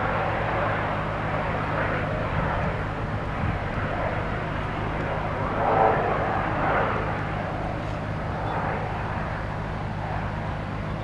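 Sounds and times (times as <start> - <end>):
helicopter flying past: 0.0 - 11.0.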